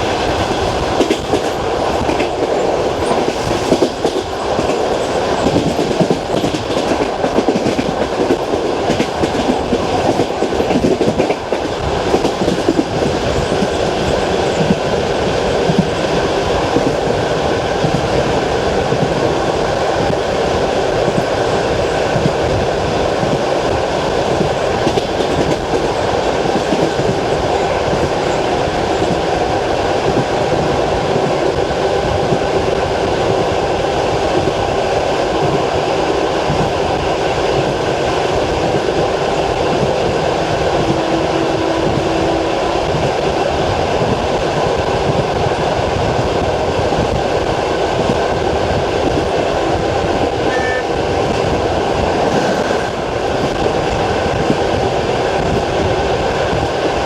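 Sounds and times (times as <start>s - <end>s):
train carriage rumble: 0.0s - 57.0s
train wheels clickety-clack: 0.0s - 57.0s.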